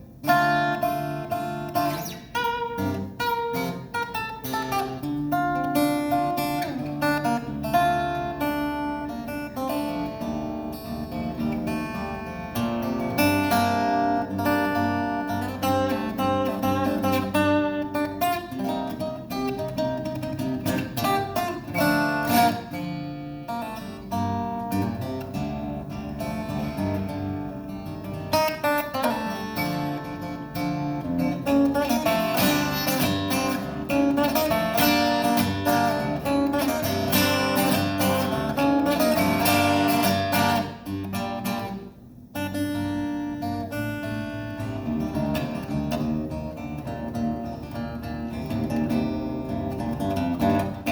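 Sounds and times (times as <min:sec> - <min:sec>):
acoustic guitar playing: 0:00.0 - 0:50.9.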